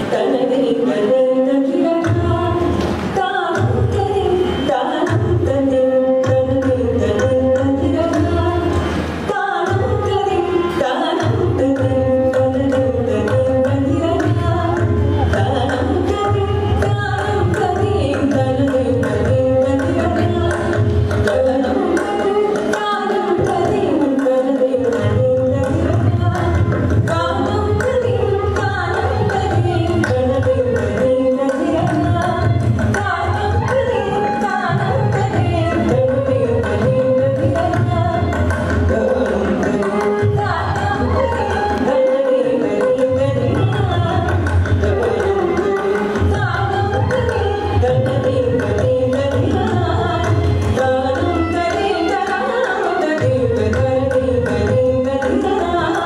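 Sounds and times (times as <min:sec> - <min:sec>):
woman singing: 0:00.0 - 0:56.0
violin melody: 0:00.8 - 0:56.0
hand drum playing: 0:06.2 - 0:56.0.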